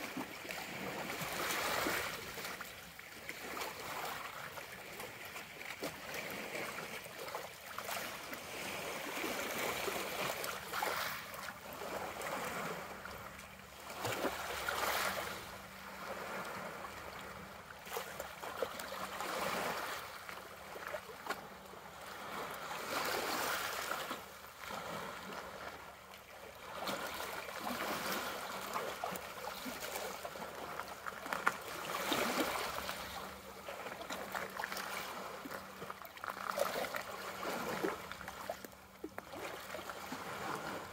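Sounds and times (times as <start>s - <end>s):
waves lapping against rocks: 0.0s - 40.9s.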